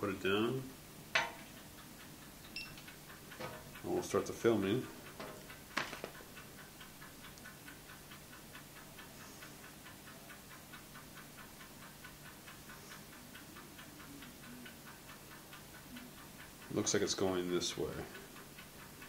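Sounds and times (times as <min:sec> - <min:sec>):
clockwork ticking: 0:00.0 - 0:19.0.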